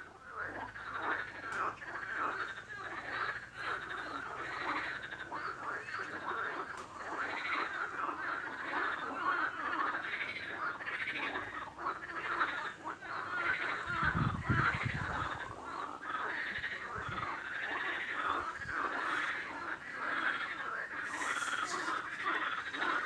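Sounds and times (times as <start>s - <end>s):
frogs croaking and trilling: 0.0s - 23.0s
deep pulsing frog call: 0.1s - 23.0s.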